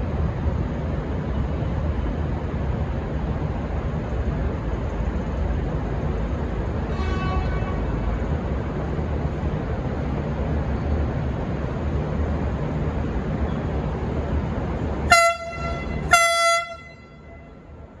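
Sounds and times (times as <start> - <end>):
diesel train engines and wheels: 0.0 - 18.0.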